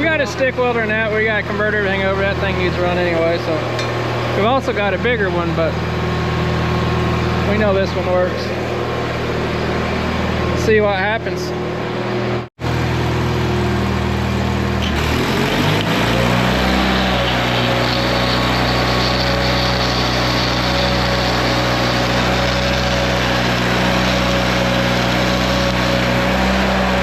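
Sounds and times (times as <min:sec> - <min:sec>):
welder engine running: 0:00.0 - 0:27.0.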